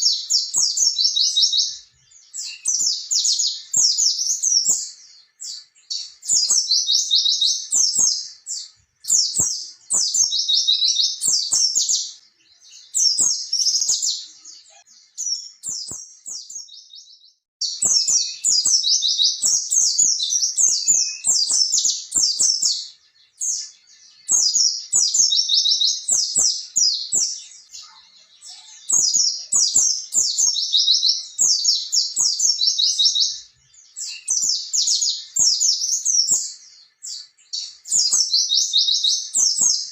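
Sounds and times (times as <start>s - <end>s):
bird singing rolling chirps: 0.0s - 39.9s.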